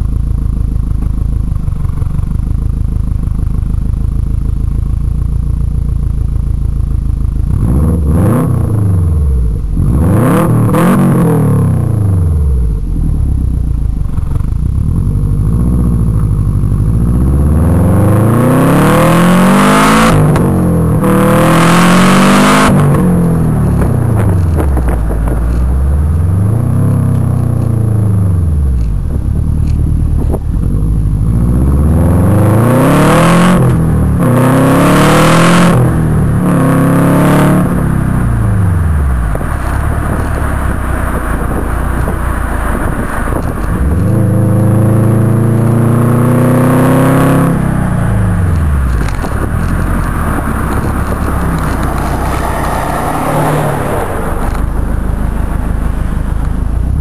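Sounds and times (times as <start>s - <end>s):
car exhaust revving: 0.0s - 57.0s.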